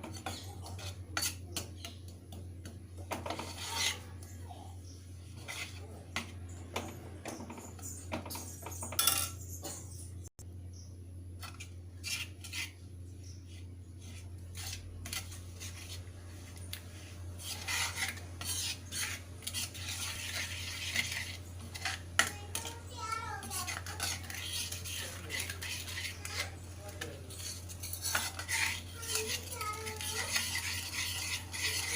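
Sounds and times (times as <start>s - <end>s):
spoon scraping a pan: 0.0s - 10.0s, 11.4s - 31.9s
steady low hum: 0.0s - 31.9s.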